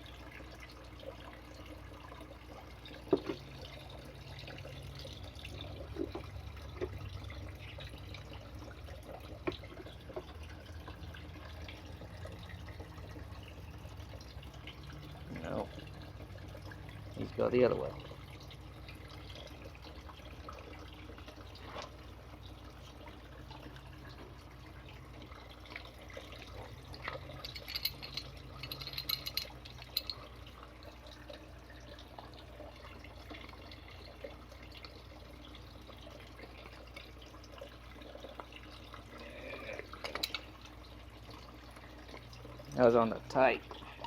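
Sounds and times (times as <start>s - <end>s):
water trickling and dripping: 0.0s - 44.0s.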